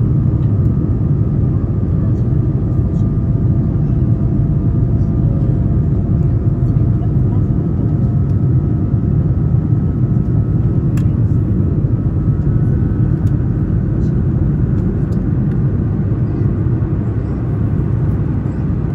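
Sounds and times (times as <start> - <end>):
airliner engines rumbling: 0.0 - 18.9.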